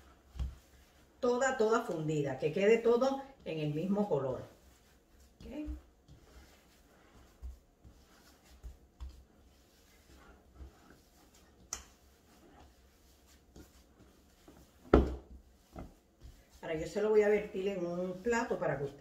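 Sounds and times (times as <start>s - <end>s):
hands kneading wet dough: 0.0s - 19.0s.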